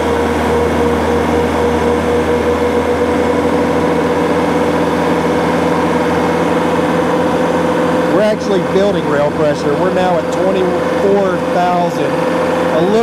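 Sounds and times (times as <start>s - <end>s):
diesel engine at high throttle: 0.0s - 13.0s.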